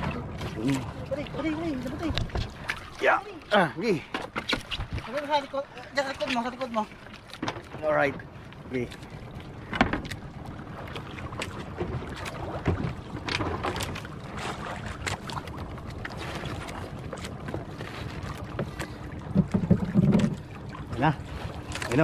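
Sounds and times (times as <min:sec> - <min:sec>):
knocks and splashes against hull: 0:00.0 - 0:22.0
water noise: 0:00.0 - 0:22.0.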